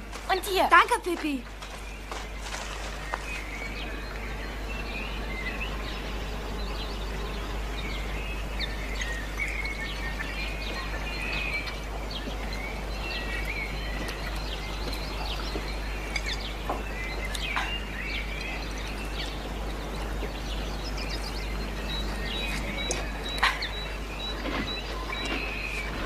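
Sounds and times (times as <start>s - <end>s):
birds chirping: 0.0s - 26.0s
low hum and hiss: 0.0s - 26.0s.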